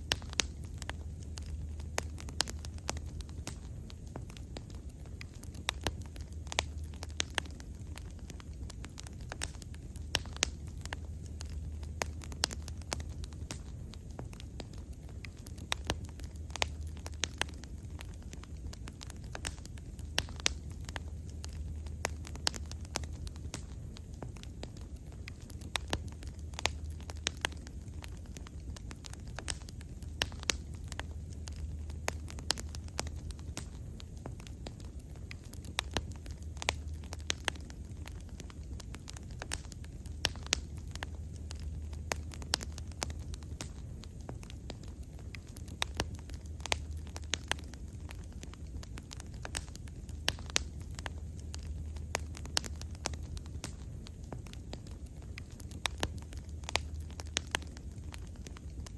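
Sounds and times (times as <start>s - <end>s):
bonfire crackling and popping: 0.0s - 58.9s
low rumble of flames: 0.0s - 58.9s.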